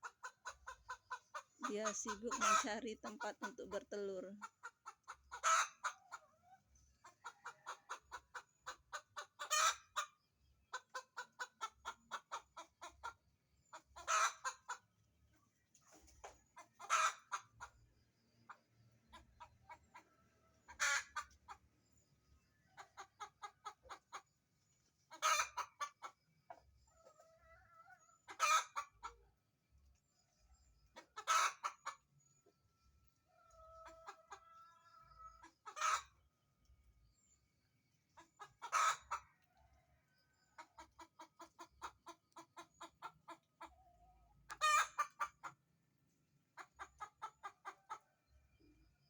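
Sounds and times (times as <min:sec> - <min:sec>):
hen clucking: 0:00.0 - 0:15.0, 0:15.7 - 0:21.8, 0:22.4 - 0:29.4, 0:30.8 - 0:32.6, 0:33.3 - 0:36.4, 0:38.0 - 0:45.7, 0:46.5 - 0:48.2.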